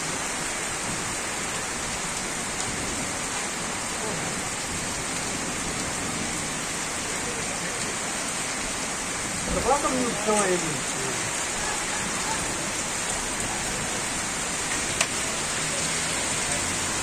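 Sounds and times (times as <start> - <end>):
heavy rain splashing on ground: 0.0 - 17.0.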